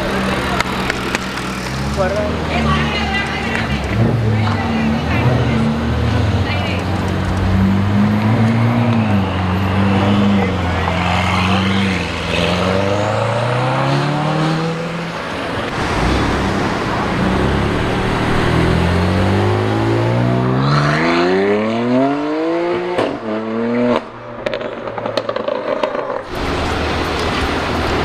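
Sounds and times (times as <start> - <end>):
sports car engines revving: 0.0 - 28.0.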